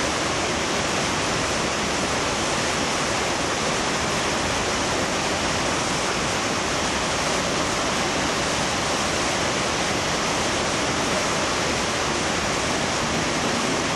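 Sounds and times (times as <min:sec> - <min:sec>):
water rushing over weir: 0:00.0 - 0:13.9.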